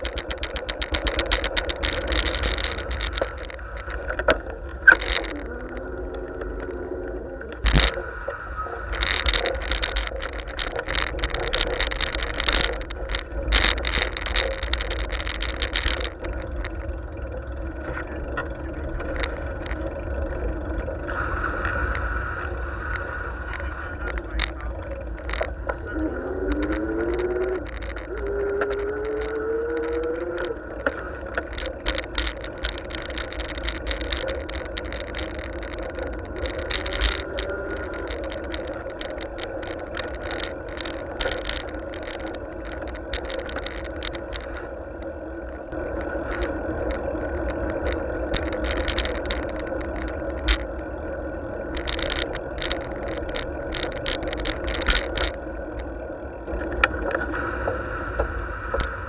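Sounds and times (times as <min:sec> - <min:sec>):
bicycle rattles and clicks: 0:00.0 - 0:59.0
wind rumble on microphone: 0:00.0 - 0:59.0.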